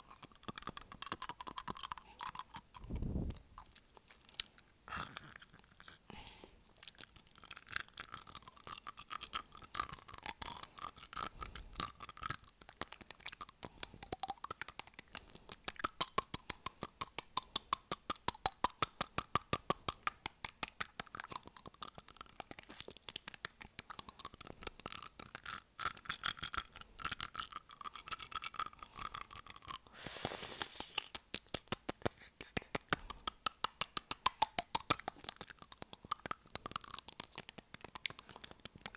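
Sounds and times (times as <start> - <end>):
fingernails tapping on teeth: 0.0 - 2.8, 7.4 - 29.8, 30.8 - 38.9.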